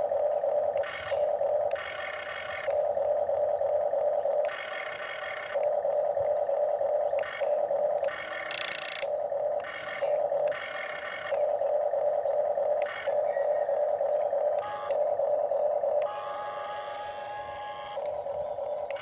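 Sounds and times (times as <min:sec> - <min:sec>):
higher buzzy motor sound: 0:00.0 - 0:19.0
toy electric motors whining: 0:00.0 - 0:19.0.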